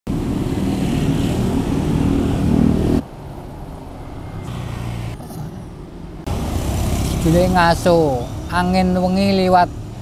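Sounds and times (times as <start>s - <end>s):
steady traffic rumble: 0.1s - 10.0s.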